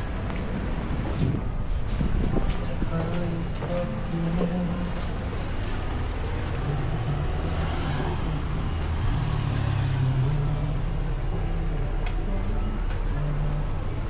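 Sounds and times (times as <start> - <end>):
vehicle engine running low: 0.0 - 14.0.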